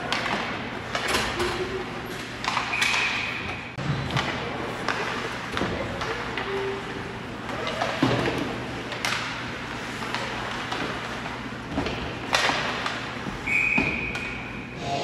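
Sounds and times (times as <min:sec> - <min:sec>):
hockey sticks and puck clacking: 0:00.0 - 0:14.6.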